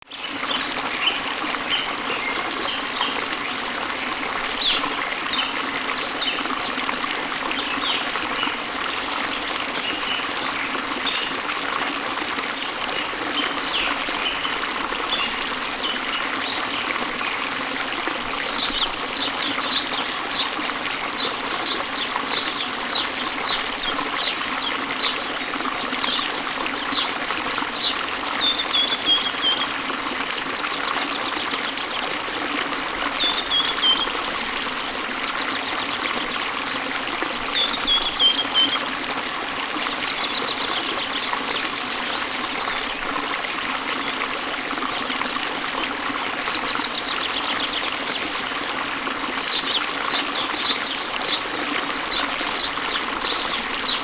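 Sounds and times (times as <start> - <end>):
falling water rushing: 0.2 - 54.0.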